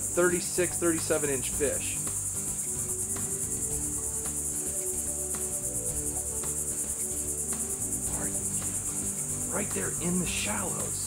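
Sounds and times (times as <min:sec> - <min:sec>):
insect chorus trilling: 0:00.0 - 0:11.0
soft background music: 0:00.0 - 0:11.0.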